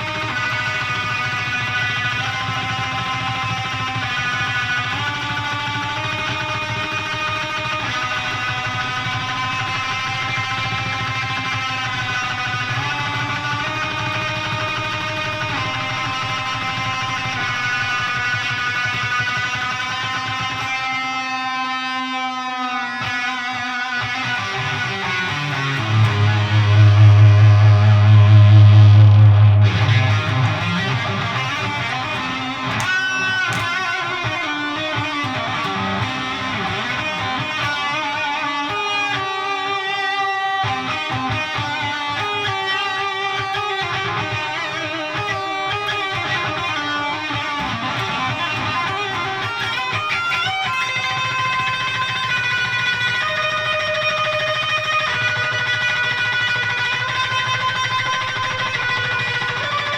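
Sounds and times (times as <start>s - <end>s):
distorted electric guitar riff: 0.0s - 59.9s.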